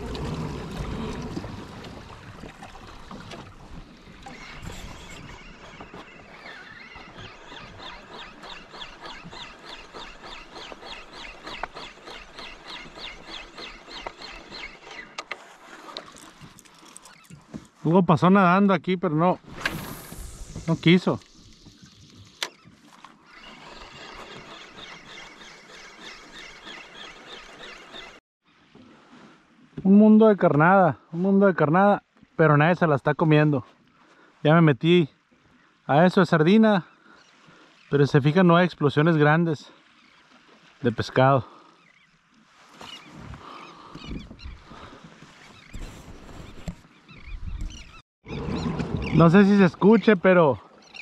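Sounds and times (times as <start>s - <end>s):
seabirds calling: 0.0s - 17.6s, 20.6s - 28.8s, 33.1s - 51.0s.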